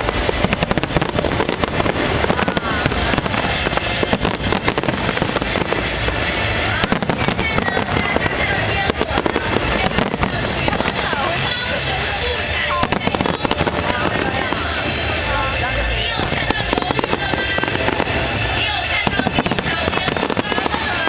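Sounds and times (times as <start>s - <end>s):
fireworks crackling and popping: 0.0s - 21.0s
music playing: 0.0s - 21.0s.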